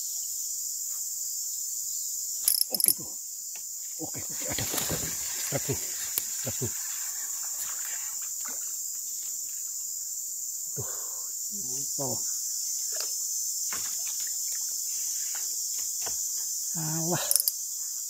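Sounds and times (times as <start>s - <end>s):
insect chorus chirring: 0.0s - 18.0s.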